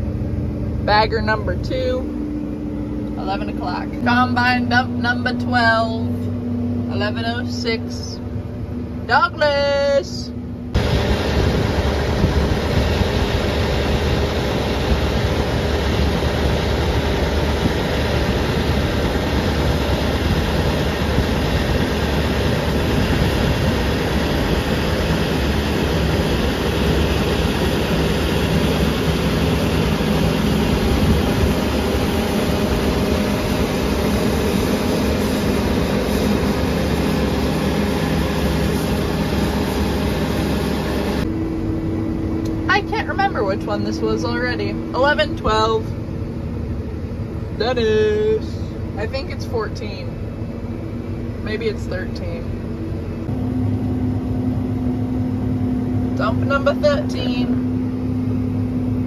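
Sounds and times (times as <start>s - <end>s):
diesel machinery engine drone: 0.0s - 59.0s.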